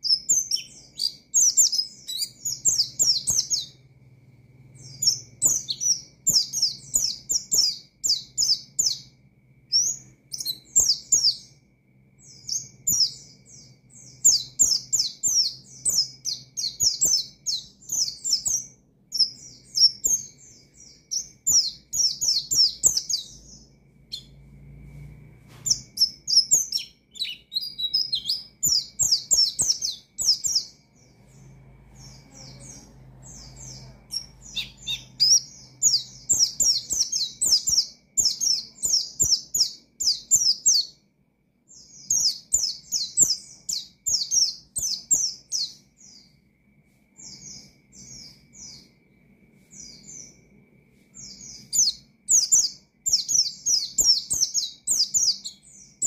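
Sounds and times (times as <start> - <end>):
bird chattering song: 0.0 - 24.4, 25.6 - 41.0, 41.7 - 46.4, 51.2 - 56.0.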